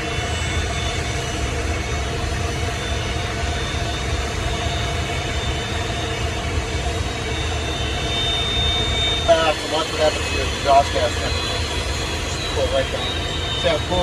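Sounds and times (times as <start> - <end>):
jet engines low rumble and whine: 0.0 - 14.0.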